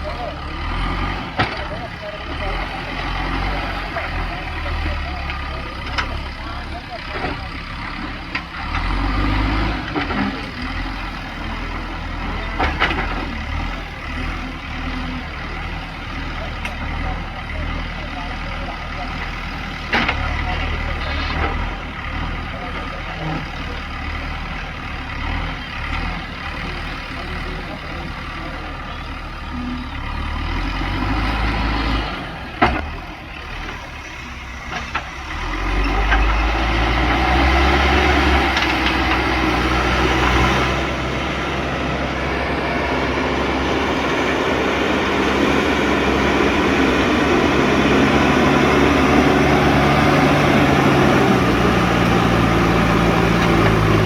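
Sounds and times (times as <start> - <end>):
diesel engine running: 0.0 - 54.0
engine revving under load: 0.0 - 54.0.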